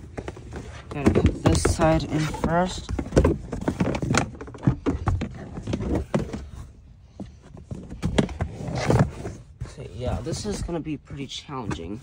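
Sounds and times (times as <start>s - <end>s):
rubber floor mat knocking and scraping: 0.0s - 12.0s.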